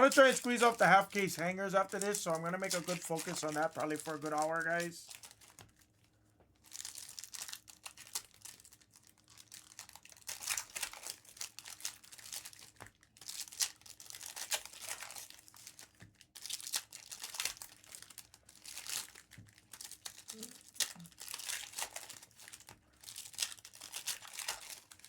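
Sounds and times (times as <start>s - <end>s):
card wrappers crinkling and tearing: 0.0s - 25.0s.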